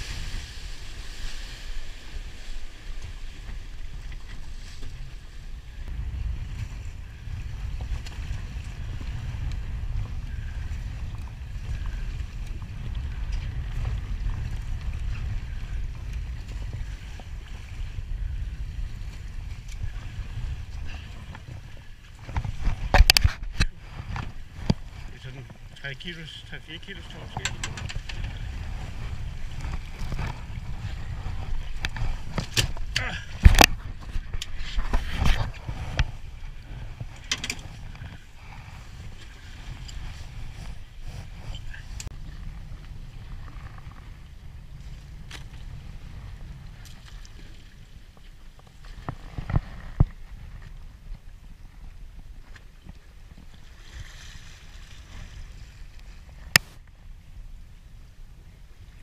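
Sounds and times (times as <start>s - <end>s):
choppy sea: 0.0s - 59.0s
wind rumbling on microphone: 0.0s - 59.0s.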